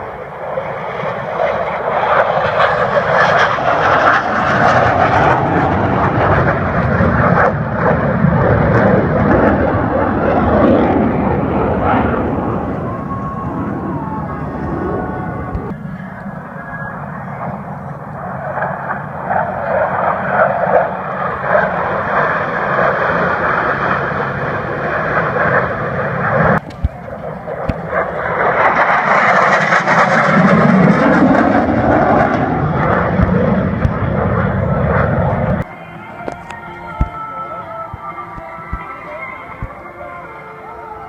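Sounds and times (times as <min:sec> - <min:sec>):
plane engine roar flying past: 0:00.0 - 0:41.0.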